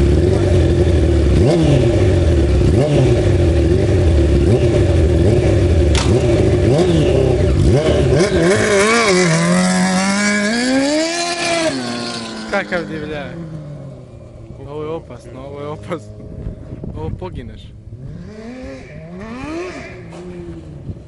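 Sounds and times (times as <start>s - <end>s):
motorcycle engine revving: 0.0s - 17.1s, 17.7s - 21.0s.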